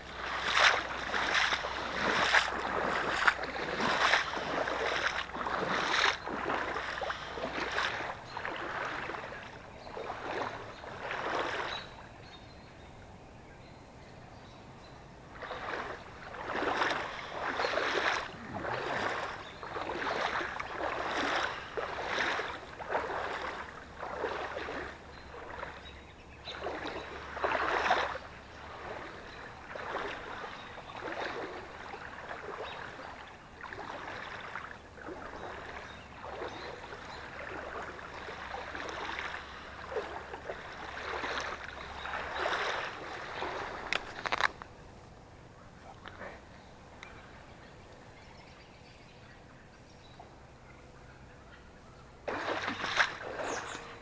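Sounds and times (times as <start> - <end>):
footsteps wading through water: 0.0 - 13.1, 15.1 - 48.2, 52.1 - 54.0.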